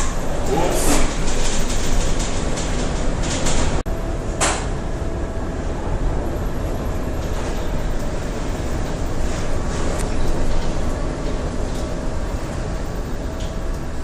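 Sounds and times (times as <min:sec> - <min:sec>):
sea rumbling around a ship: 0:00.0 - 0:14.0
storm wind: 0:00.0 - 0:14.0.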